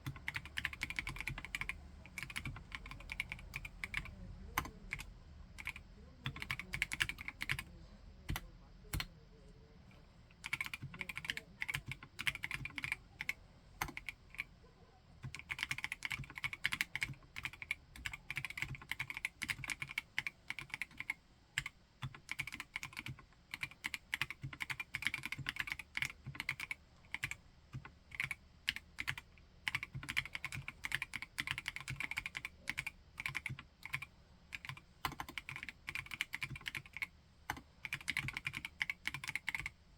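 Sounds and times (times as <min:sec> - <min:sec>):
typing on mechanical keyboard: 0:00.0 - 0:07.7, 0:08.3 - 0:09.1, 0:10.4 - 0:14.5, 0:15.2 - 0:39.8.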